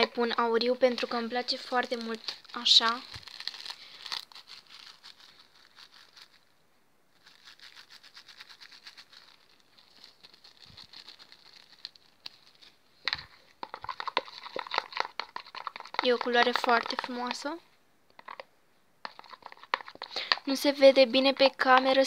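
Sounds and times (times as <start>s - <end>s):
plastic bag crinkling: 0.0s - 6.5s, 7.1s - 17.6s, 18.2s - 20.6s.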